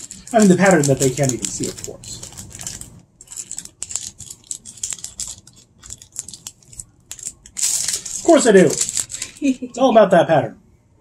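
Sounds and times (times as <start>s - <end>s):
plastic wrapper crinkling: 0.0s - 9.8s.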